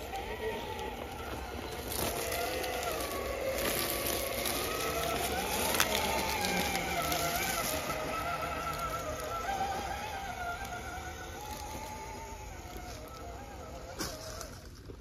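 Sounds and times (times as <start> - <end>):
electric motor whining: 0.0 - 15.0
gear and tyre noise: 0.0 - 15.0.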